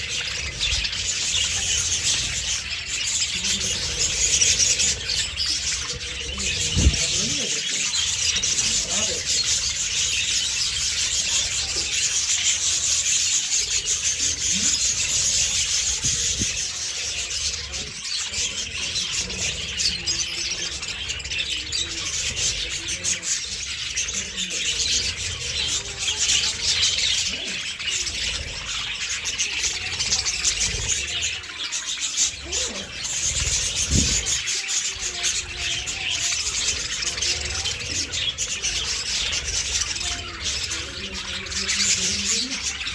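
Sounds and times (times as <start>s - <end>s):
budgerigars chattering and chirping: 0.0s - 42.9s.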